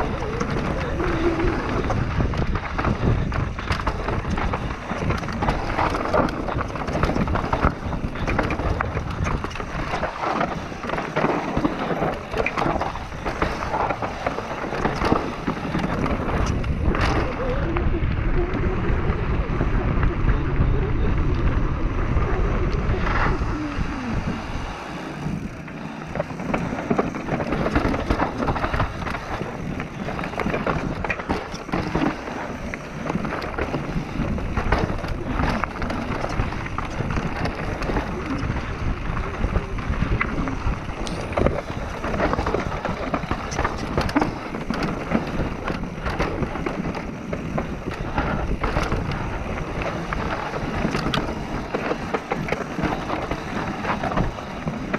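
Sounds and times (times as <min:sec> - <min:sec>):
bike clicks and rattles: 0:00.0 - 0:54.9
tyre noise on dirt: 0:00.0 - 0:54.9
wind on microphone: 0:00.0 - 0:54.9.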